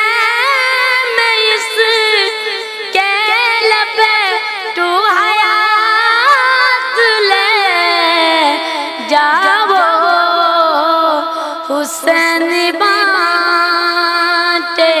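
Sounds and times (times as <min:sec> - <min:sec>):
boy singing solo: 0:00.0 - 0:15.0.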